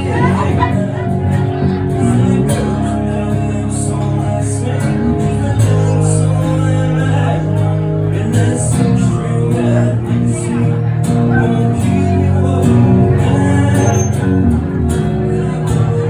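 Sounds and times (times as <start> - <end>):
live band playing guitar chords: 0.0 - 16.0.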